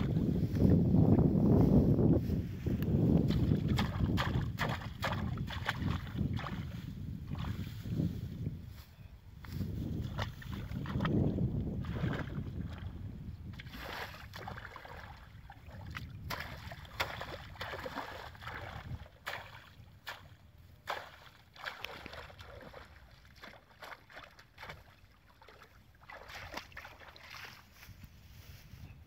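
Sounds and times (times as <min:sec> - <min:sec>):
wind rumbling on microphone: 0:00.0 - 0:29.0
muddy water sloshing and splashing: 0:03.0 - 0:08.3, 0:09.5 - 0:28.4.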